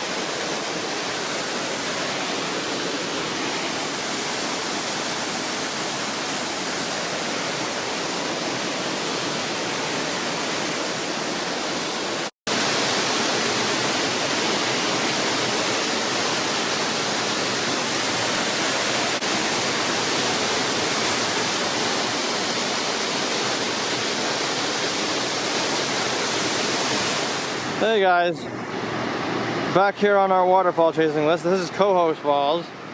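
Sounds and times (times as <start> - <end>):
waterfall rushing: 0.0 - 32.5.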